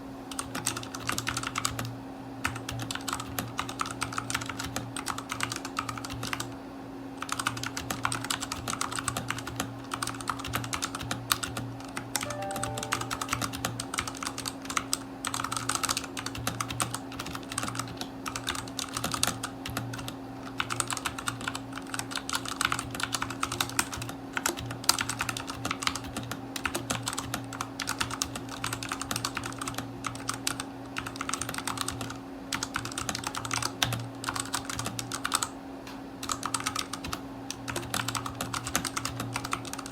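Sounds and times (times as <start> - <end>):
fast typing on mechanical keyboard: 0.3 - 6.6, 7.2 - 35.6, 36.2 - 39.9.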